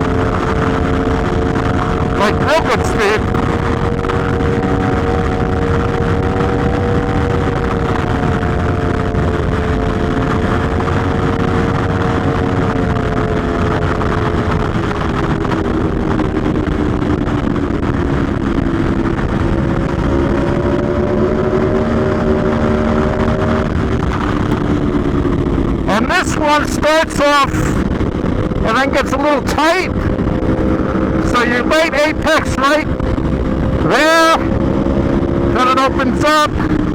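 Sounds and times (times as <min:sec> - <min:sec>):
motorcycle engine running hard: 0:00.0 - 0:36.9
wind rushing: 0:00.0 - 0:36.9.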